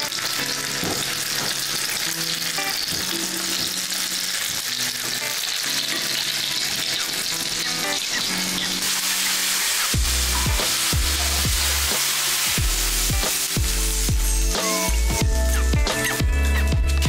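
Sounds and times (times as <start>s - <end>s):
fish sizzling in oil: 0.0s - 15.2s.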